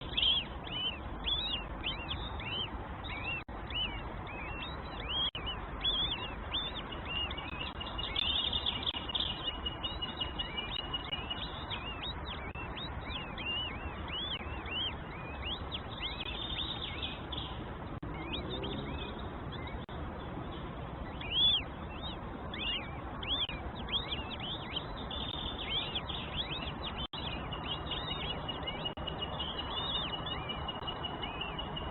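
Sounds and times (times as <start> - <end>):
nestling birds cheeping: 0.0 - 31.9.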